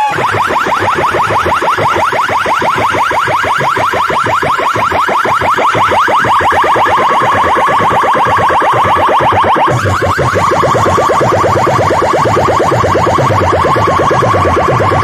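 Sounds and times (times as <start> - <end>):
pulsing bass: 0.0 - 15.0
rapid rising electronic chirps: 0.0 - 15.0.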